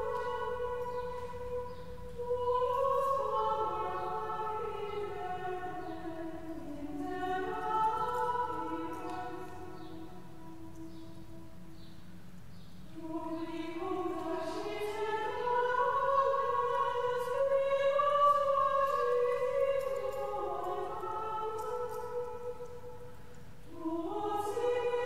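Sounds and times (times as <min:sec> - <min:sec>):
choir singing a slow hymn: 0:00.0 - 0:12.0, 0:12.8 - 0:25.0.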